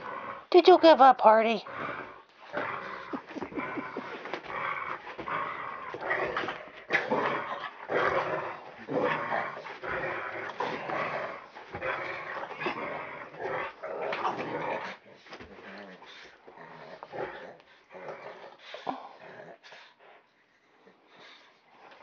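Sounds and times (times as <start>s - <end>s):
dogs growling: 0.0s - 0.7s, 1.4s - 22.0s.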